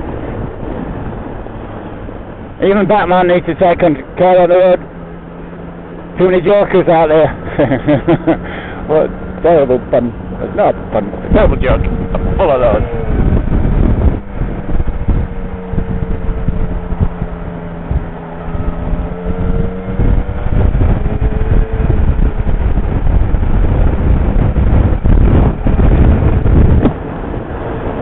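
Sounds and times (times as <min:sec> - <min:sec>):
wind noise on microphone: 0:00.0 - 0:28.0
motorcycle engine running: 0:04.8 - 0:28.0.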